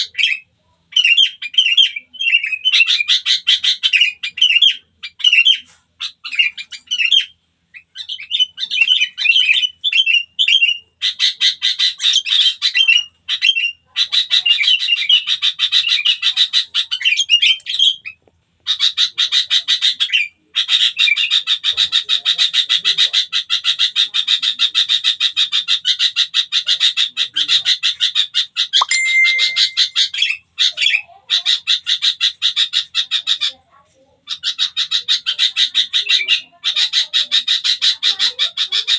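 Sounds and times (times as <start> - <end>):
small bird chirping and trilling: 0.0 - 33.6.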